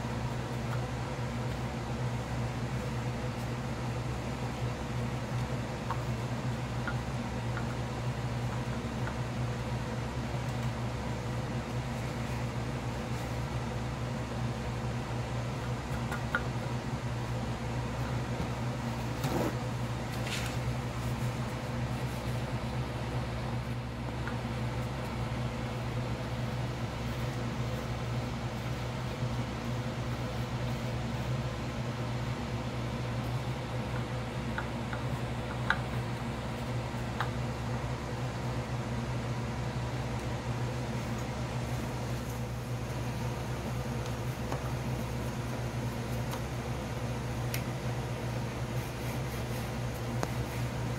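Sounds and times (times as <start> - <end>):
low machine hum: 0.0 - 50.9.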